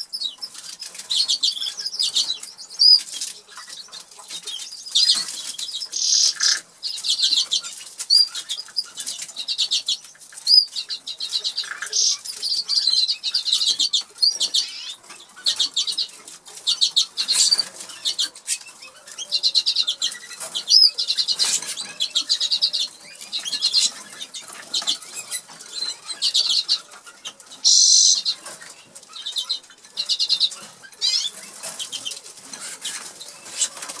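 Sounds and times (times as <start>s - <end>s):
canary singing trills: 0.0s - 34.0s.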